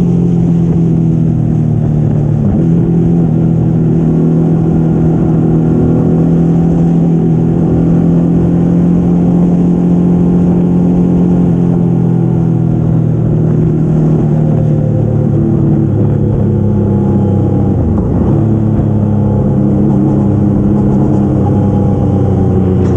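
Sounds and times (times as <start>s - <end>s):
motorcycle engine running: 0.0s - 22.9s
wind rushing over microphone: 0.0s - 22.9s.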